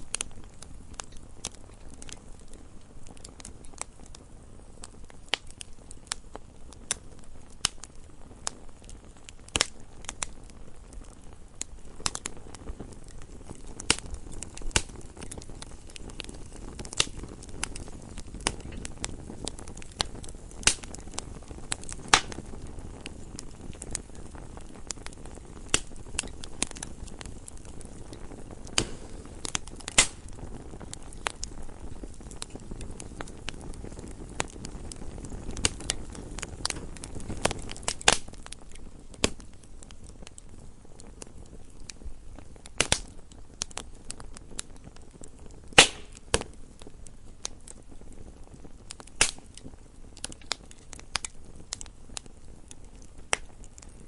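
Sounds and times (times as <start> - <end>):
logs crackling and popping: 0.0 - 54.0
wood fire rumbling: 0.0 - 54.0.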